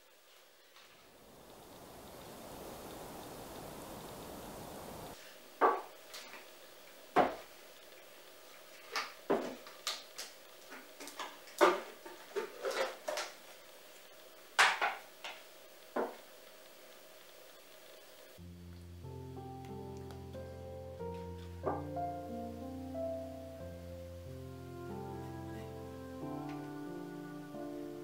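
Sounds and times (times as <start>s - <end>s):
rain hissing: 0.0s - 28.0s.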